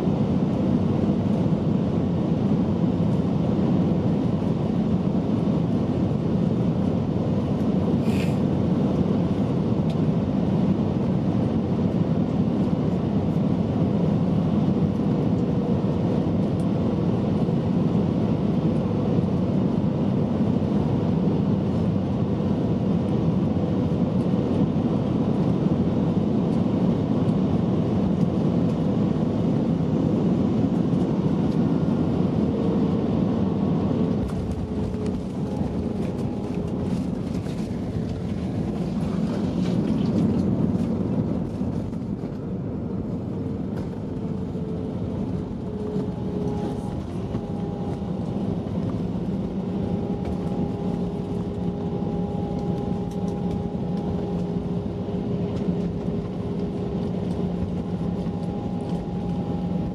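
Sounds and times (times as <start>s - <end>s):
jet airliner cabin noise: 0.0s - 59.9s.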